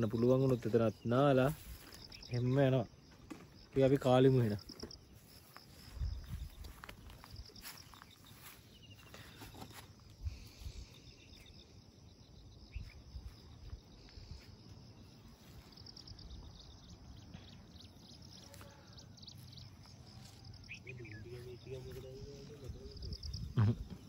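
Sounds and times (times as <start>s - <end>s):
insects chirping in trills: 0.0s - 24.0s.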